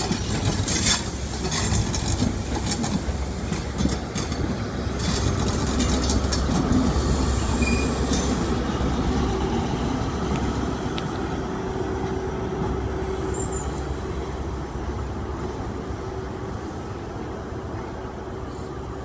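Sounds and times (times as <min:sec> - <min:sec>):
diesel engine humming: 0:00.0 - 0:19.0
train rumbling past: 0:00.0 - 0:19.0.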